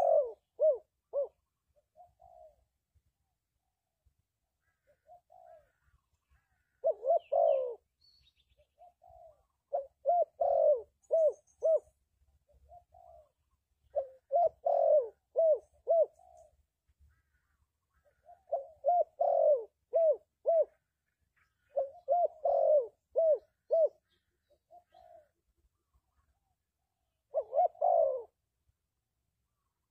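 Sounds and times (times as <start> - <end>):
dove cooing: 0.0 - 2.8, 4.6 - 26.6, 27.2 - 28.5.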